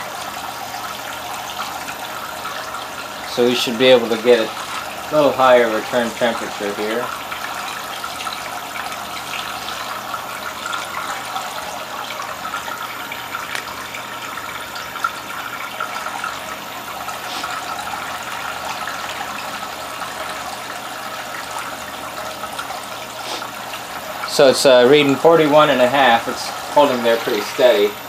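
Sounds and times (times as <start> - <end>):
water pouring from hose into tank: 0.0 - 28.0.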